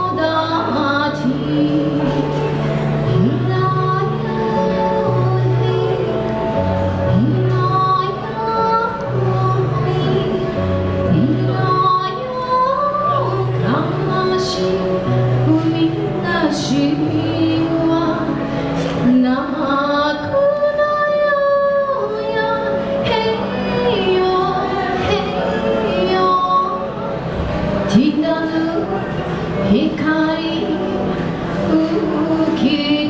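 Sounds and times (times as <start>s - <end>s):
woman singing into microphone: 0.0s - 33.0s.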